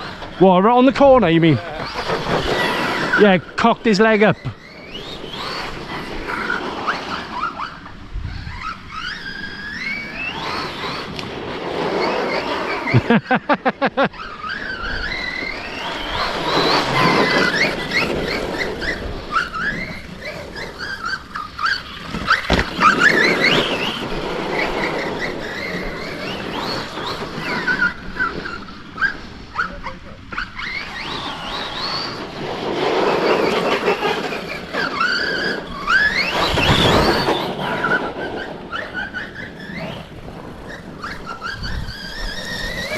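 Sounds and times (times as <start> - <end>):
electric motors whining: 0.0 - 42.9.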